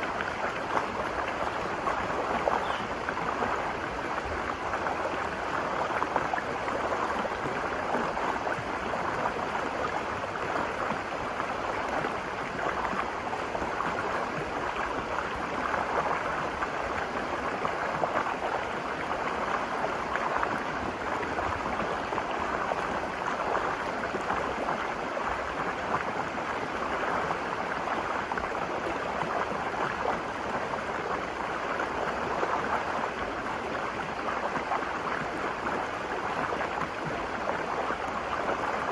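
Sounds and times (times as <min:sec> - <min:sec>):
river flowing over rocks: 0:00.0 - 0:38.9.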